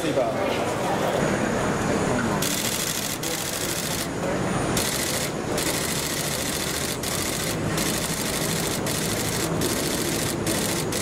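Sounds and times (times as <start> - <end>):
vehicle engines rumbling: 0.6 - 11.0.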